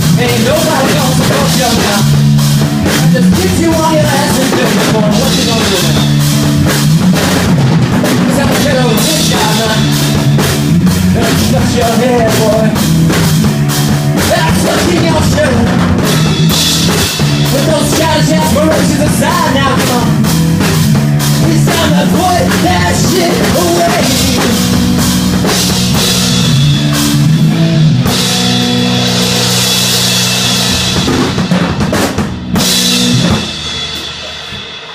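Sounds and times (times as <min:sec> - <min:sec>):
bass line: 0:00.0 - 0:34.9
drum kit: 0:00.0 - 0:34.9
electric guitars: 0:00.0 - 0:34.9
rock band playing: 0:00.0 - 0:34.9.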